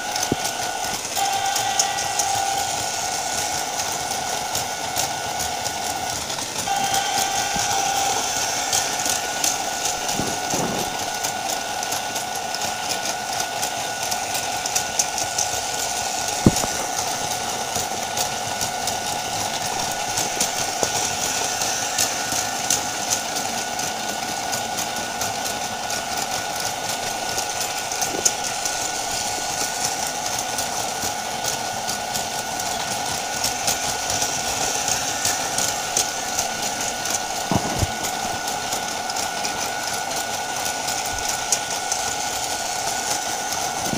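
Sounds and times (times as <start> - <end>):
electronic crossing warning bell: 0.0 - 43.9
toy train motors whirring: 0.0 - 43.9
toy train wheels clicking: 0.0 - 43.9.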